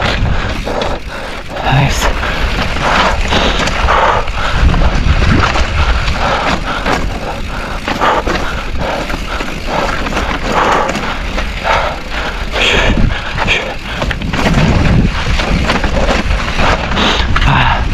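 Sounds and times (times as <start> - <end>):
bike rattling over bumps: 0.0 - 17.9
bike tyres on rough ground: 0.0 - 17.9
wind rumble on microphone: 0.0 - 17.9.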